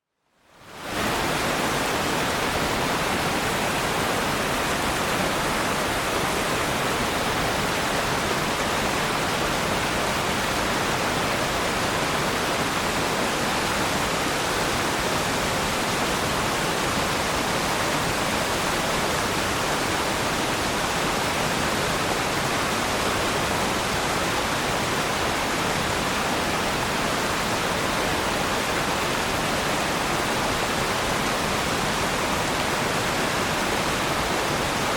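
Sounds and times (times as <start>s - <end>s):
waterfall rushing: 0.6s - 34.9s.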